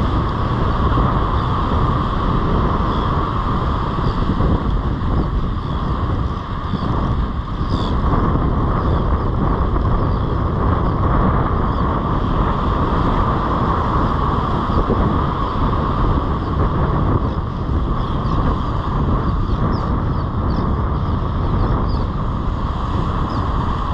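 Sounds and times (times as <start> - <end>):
wind rumbling on microphone: 0.0 - 23.9.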